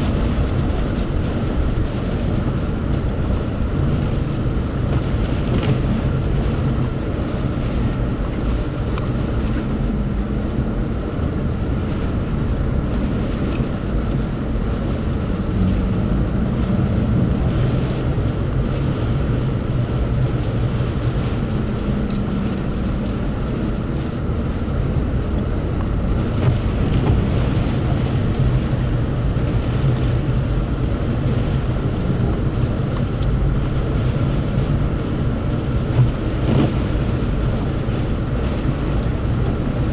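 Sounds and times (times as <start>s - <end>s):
vehicle engine low rumble: 0.0s - 39.9s.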